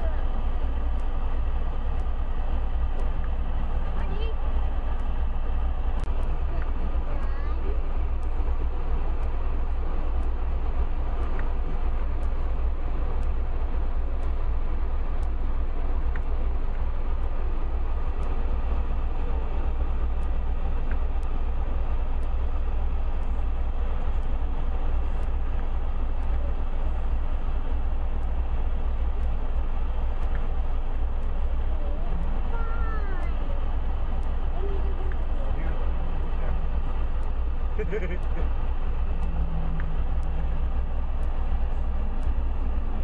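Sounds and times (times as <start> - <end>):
vehicle engine low rumble: 0.0 - 43.0.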